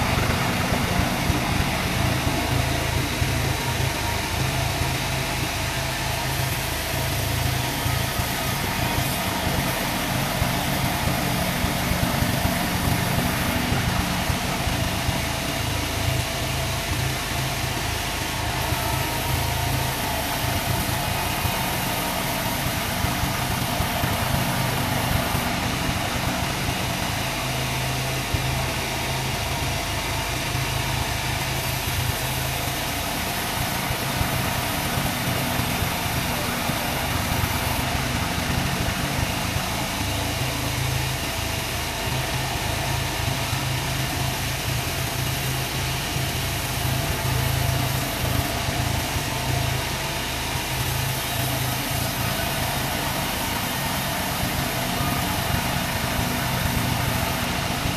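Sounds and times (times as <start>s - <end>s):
sawmill engine drone: 0.0s - 57.9s.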